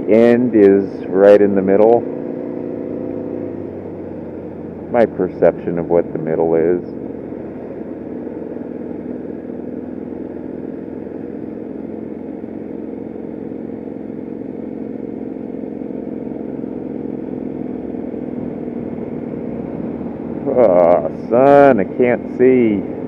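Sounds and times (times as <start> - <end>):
motorcycle engine running steadily: 0.0 - 23.0.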